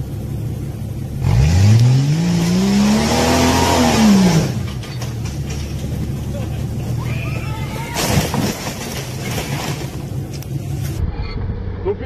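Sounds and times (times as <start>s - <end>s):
vehicle engine idling and revving: 0.0s - 12.0s.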